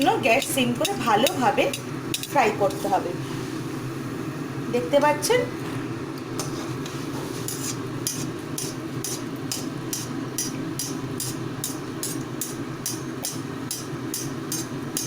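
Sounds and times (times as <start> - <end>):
deep-frying sizzle with crackles: 0.0 - 15.0.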